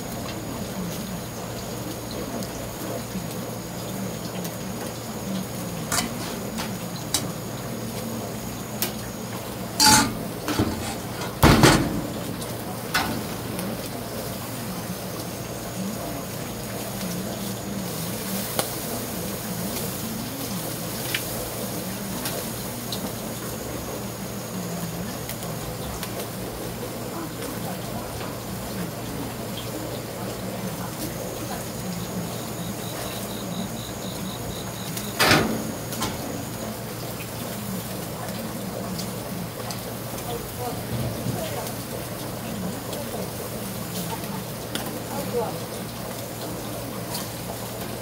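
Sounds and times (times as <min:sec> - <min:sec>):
fat crackling on coals: 0:00.0 - 0:48.0
fish sizzling on charcoal grill: 0:00.0 - 0:48.0.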